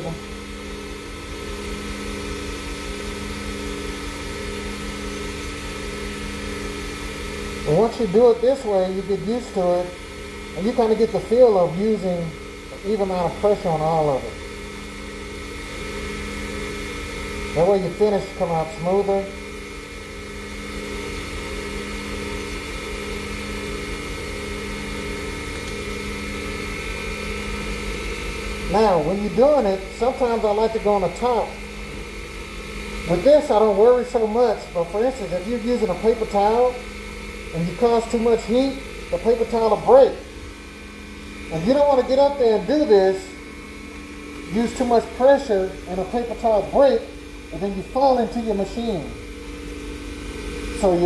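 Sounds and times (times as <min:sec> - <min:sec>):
wood lathe humming: 0:00.0 - 0:51.0.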